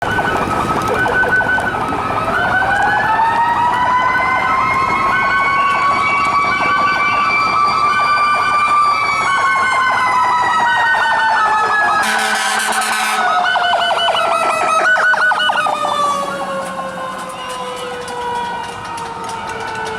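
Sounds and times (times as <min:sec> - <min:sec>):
siren wailing: 0:00.0 - 0:19.9
siren yelping: 0:00.0 - 0:19.9.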